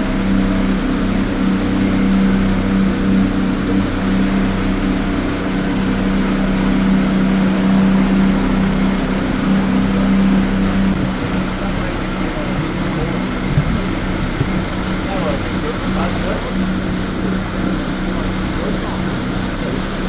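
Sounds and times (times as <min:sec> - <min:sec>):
motorboat engine droning: 0:00.0 - 0:20.0
water rushing along hull: 0:00.0 - 0:20.0.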